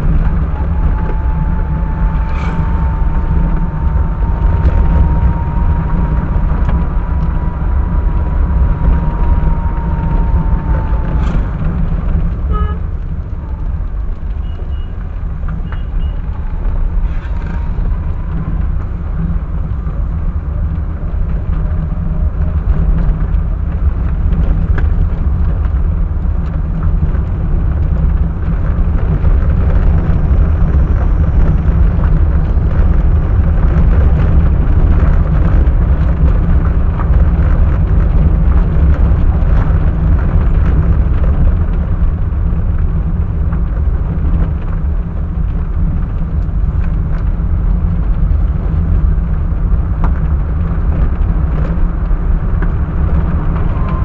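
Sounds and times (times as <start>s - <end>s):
engine and road noise rumble: 0.0s - 54.0s.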